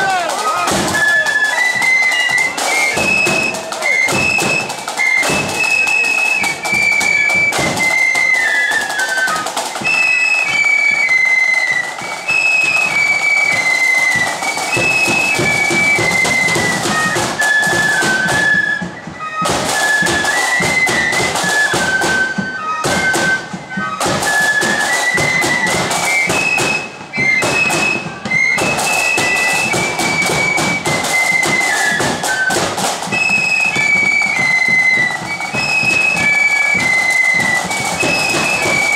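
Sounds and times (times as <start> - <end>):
massed flute melody: 0.0 - 38.9
snare drums: 0.0 - 38.9.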